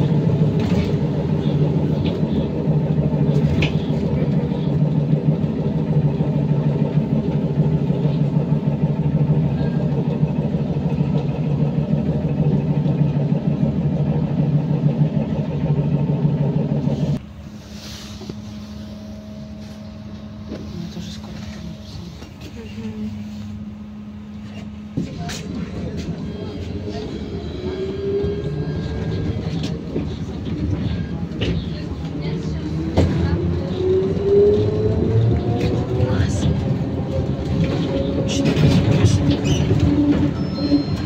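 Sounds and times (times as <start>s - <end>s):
trolleybus machinery drone: 0.0s - 41.0s.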